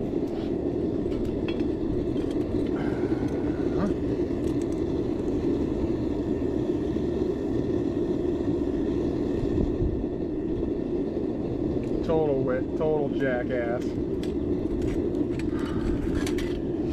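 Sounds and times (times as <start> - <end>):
furnace burner roaring: 0.0 - 16.9
wind rumbling on microphone: 0.0 - 16.9.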